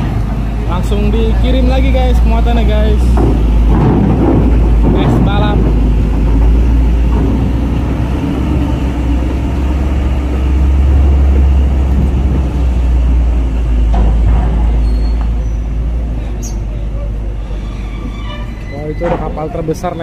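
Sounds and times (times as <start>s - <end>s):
diesel trucks rumbling: 0.0s - 20.0s.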